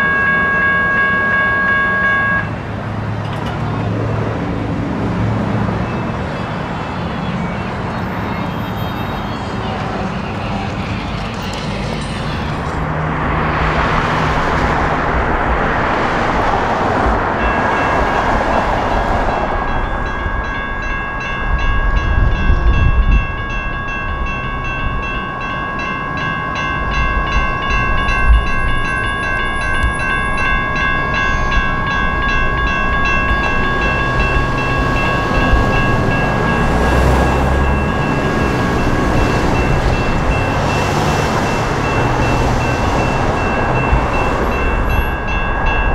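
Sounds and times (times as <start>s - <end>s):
railroad crossing bell ringing: 0.0s - 45.9s
rumble of passing traffic: 0.0s - 45.9s.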